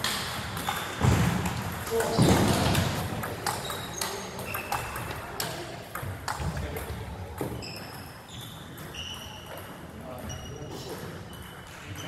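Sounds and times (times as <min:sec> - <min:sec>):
table tennis balls clicking: 0:00.0 - 0:09.9.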